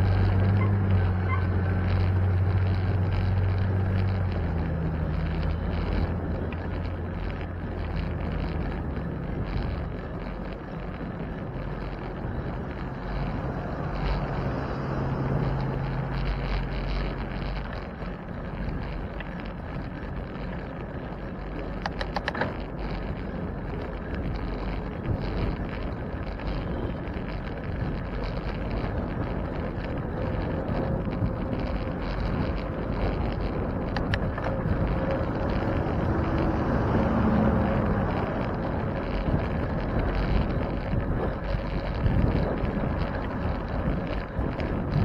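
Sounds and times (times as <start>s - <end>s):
street traffic: 0.0s - 45.0s
wind on microphone: 0.0s - 45.0s.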